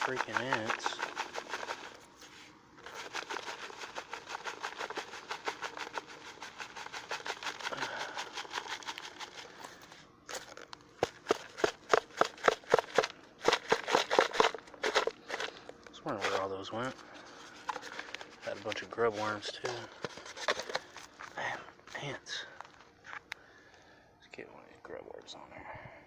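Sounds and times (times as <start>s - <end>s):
hands digging through dirt: 0.0s - 22.1s.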